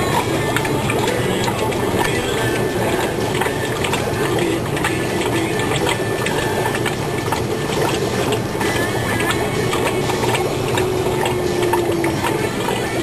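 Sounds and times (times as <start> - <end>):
aquarium pump humming: 0.0 - 13.0
running water: 0.0 - 13.0.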